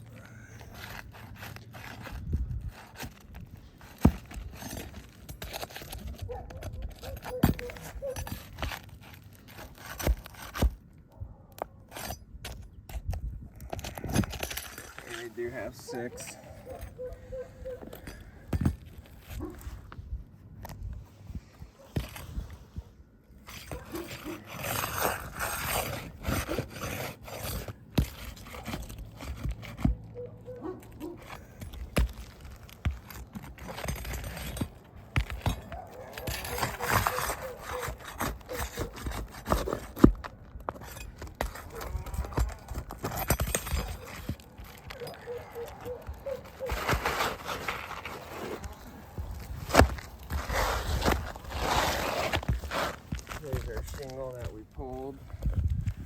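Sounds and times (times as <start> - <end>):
tools scraping roof shingle: 0.0 - 56.0.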